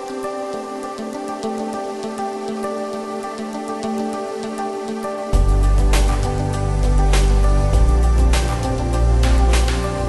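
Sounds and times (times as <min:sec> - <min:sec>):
soft sustained chords: 0:00.0 - 0:10.0.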